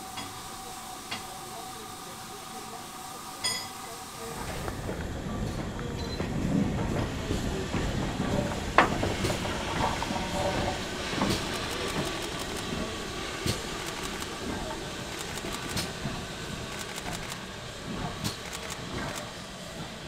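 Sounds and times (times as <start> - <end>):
steam hissing: 0.0 - 20.0
steam locomotive passing: 0.0 - 20.0.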